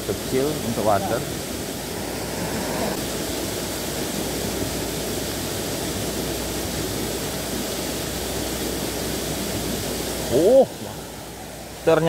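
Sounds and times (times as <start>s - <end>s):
waterfall rushing into a pool: 0.0s - 12.0s.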